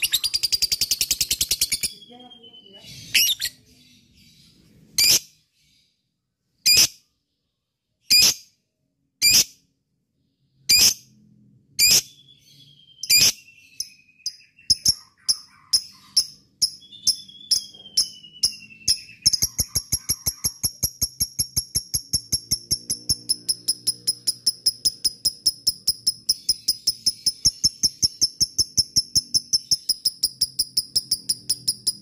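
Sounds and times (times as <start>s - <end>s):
bird chirping and trilling: 0.0s - 32.0s.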